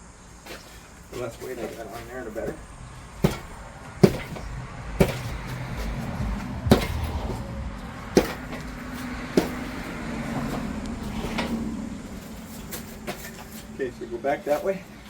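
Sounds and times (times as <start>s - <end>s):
wheels rolling on asphalt: 0.0s - 15.0s
metal knocks and clanks: 0.4s - 13.8s.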